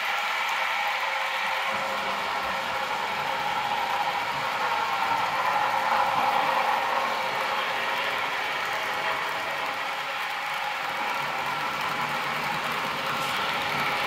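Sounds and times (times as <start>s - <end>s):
model locomotive running: 0.0s - 14.0s.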